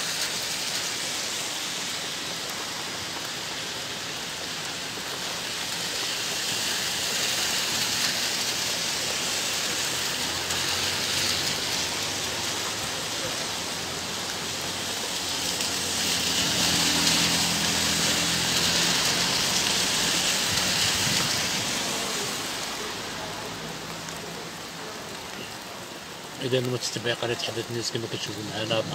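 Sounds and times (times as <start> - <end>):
heavy rain splashing: 0.0 - 28.9.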